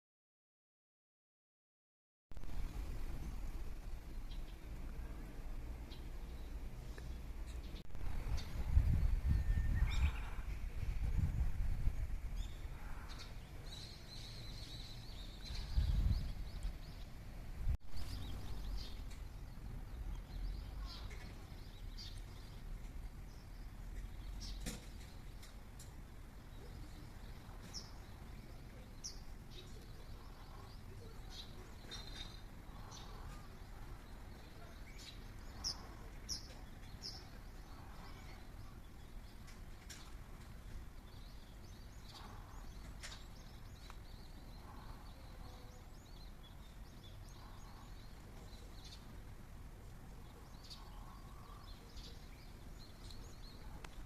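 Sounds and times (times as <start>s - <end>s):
birds chirping: 2.4s - 54.0s
outdoor background rumble: 2.4s - 54.0s.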